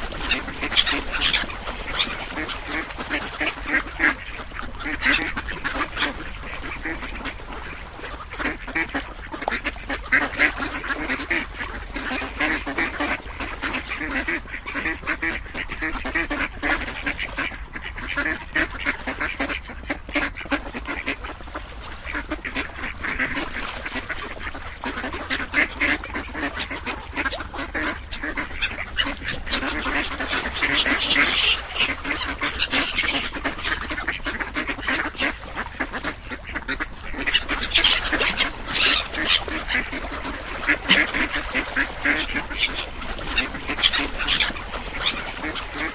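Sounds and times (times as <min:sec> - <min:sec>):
flock of ducks quacking: 0:00.0 - 0:45.9.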